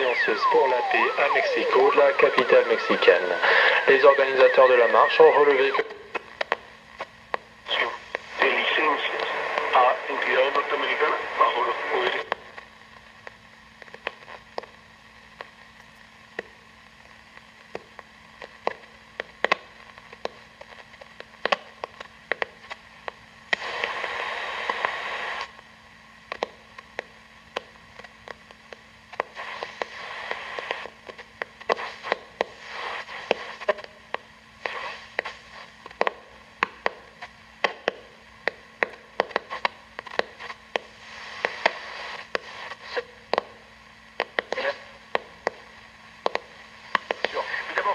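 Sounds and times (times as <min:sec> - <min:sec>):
low steady hum: 0:00.0 - 0:47.9
radio static hiss and crackles: 0:00.0 - 0:47.9.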